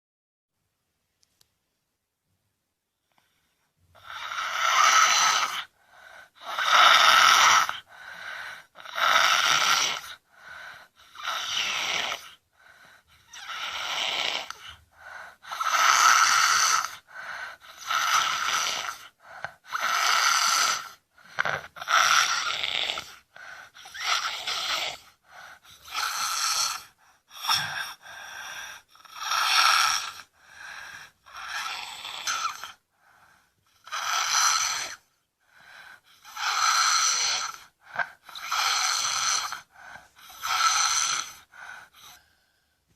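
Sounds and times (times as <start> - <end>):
child snoring heavily: 3.9 - 42.6.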